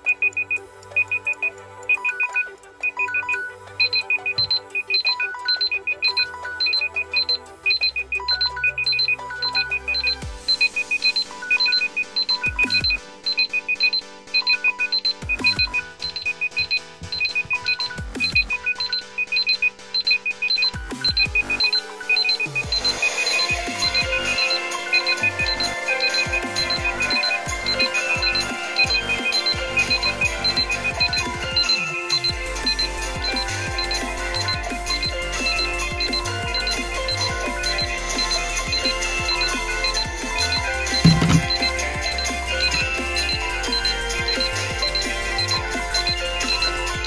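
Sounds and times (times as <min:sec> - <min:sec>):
electronic alarm beeps: 0:00.0 - 0:47.0
higher beep pattern: 0:00.0 - 0:47.0
ringtone melodies: 0:00.0 - 0:47.0.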